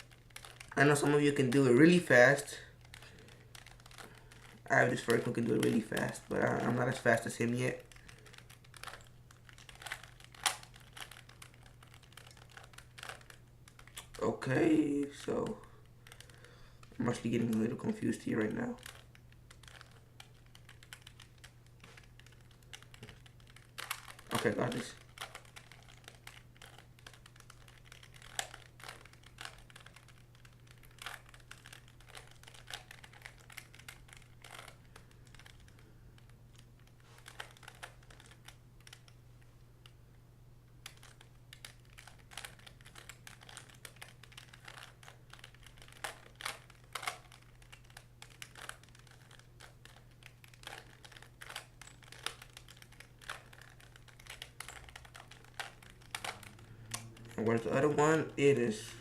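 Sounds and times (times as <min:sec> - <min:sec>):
puzzle cube clicking as turned: 0:00.0 - 0:14.2, 0:15.2 - 0:39.2, 0:40.7 - 0:58.6
steady low hum: 0:00.0 - 0:59.0.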